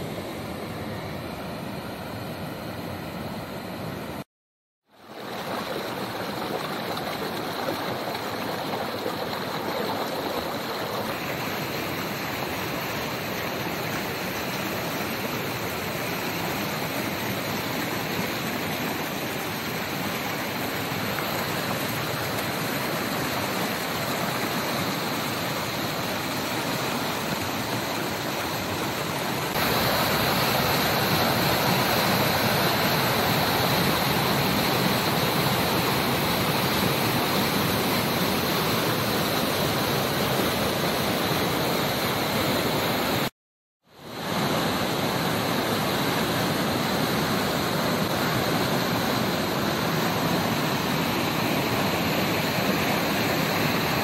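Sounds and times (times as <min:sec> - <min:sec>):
waterfall roaring: 0:05.1 - 0:43.3, 0:44.1 - 0:54.0.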